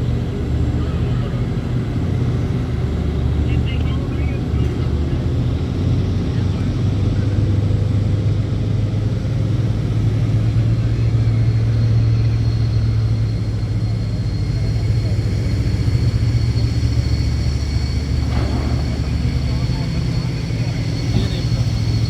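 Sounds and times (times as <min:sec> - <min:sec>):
heavy machinery engine hum: 0:00.0 - 0:22.0.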